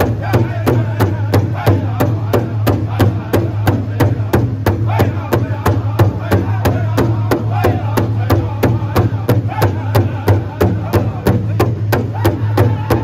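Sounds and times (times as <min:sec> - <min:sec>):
group of voices singing: 0:00.0 - 0:13.0
large drum beating: 0:00.0 - 0:13.0.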